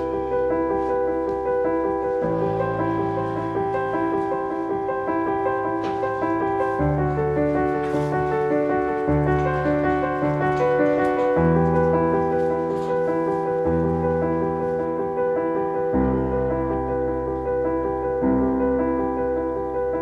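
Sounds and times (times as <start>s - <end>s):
piano keyboard music: 0.0s - 20.0s.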